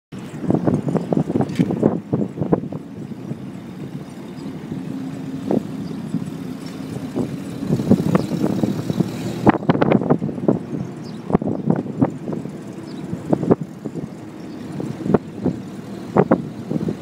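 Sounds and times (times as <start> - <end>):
jeep engine drone: 0.1 - 17.0
vehicle rattles and knocks: 0.1 - 17.0.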